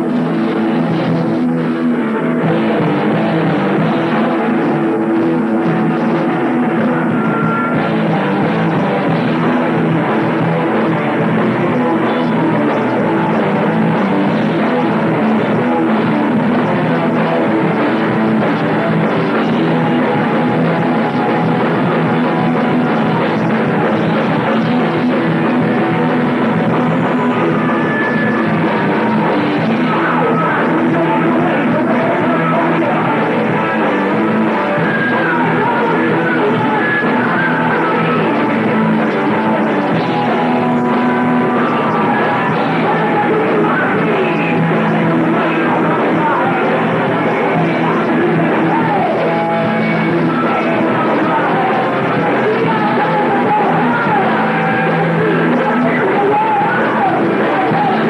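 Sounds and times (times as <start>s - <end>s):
bass guitar: 0.0s - 58.0s
drums: 0.0s - 58.0s
electric guitars: 0.0s - 58.0s.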